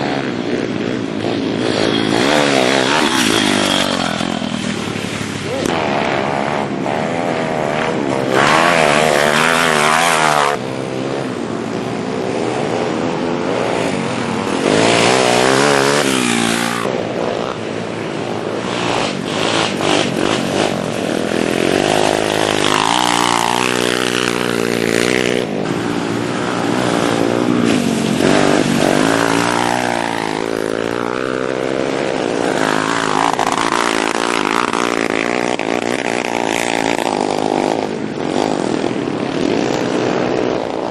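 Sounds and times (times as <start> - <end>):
minibike engines revving: 0.0 - 40.9.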